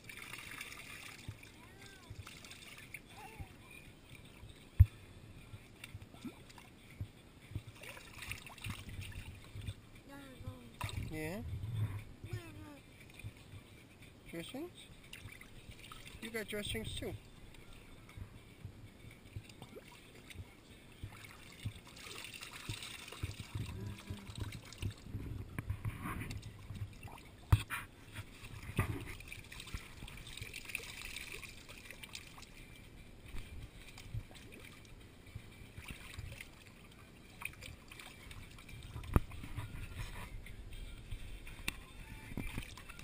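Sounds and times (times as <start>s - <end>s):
water trickling and splashing: 0.0s - 43.0s.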